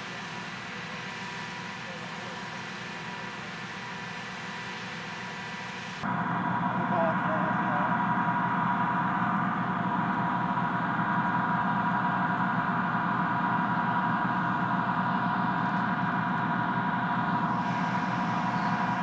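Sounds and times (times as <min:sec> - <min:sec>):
engine low rumble: 0:00.0 - 0:19.0
tank engines whining: 0:00.0 - 0:19.0.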